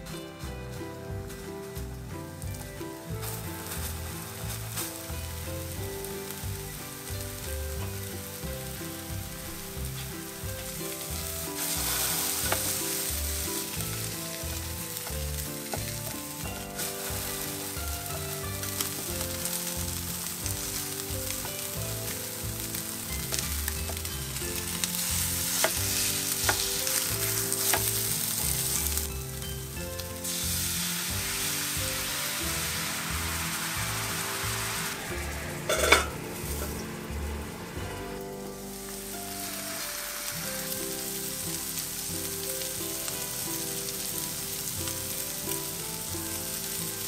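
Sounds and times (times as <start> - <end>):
patties sizzling in a frying pan: 0.2 - 37.2, 38.1 - 47.0.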